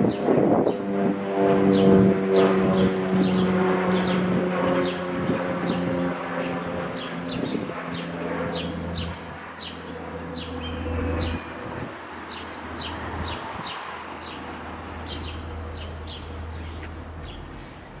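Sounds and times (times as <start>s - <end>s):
propeller plane drone: 0.0s - 18.0s
high insect buzz: 1.6s - 18.0s.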